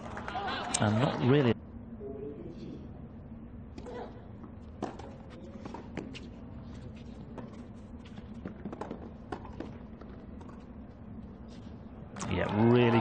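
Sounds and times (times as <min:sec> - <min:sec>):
low murmur of stadium crowd: 0:00.0 - 0:13.0.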